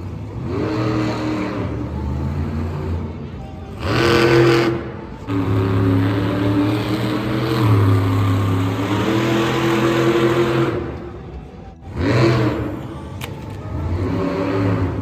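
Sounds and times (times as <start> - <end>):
engine revving in surges: 0.0 - 13.0, 13.7 - 15.0.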